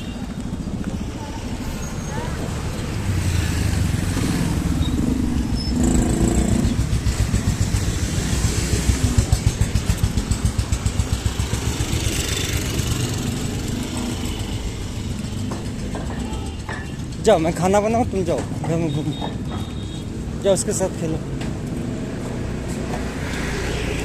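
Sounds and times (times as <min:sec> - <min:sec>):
motor engine rumbling: 0:00.0 - 0:24.0.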